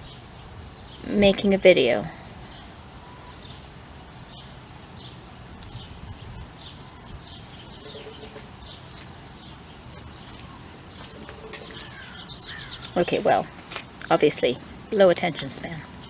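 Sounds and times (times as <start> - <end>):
faint bird chirping: 0.0 - 13.5.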